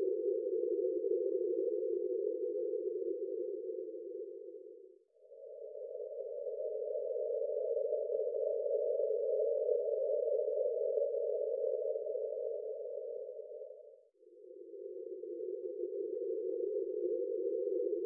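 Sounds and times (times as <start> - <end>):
lower tone: 0.0 - 18.0.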